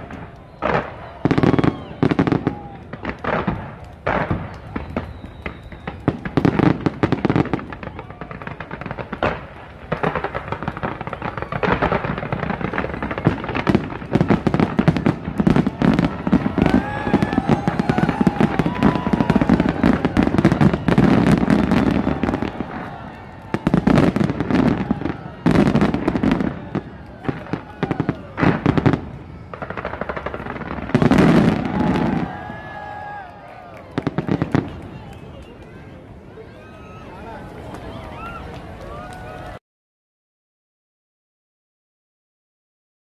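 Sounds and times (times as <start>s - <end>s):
dense crackle of firework bursts: 0.0s - 39.6s.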